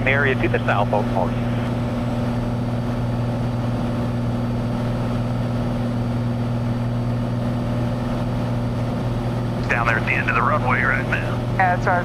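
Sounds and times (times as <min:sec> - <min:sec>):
aircraft engine droning in cabin: 0:00.0 - 0:12.0.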